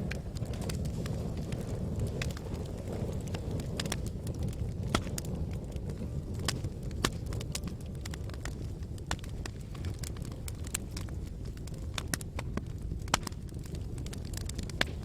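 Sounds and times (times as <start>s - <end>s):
fire flames rumbling: 0.0s - 15.0s
wood fire crackles and pops: 0.0s - 15.0s.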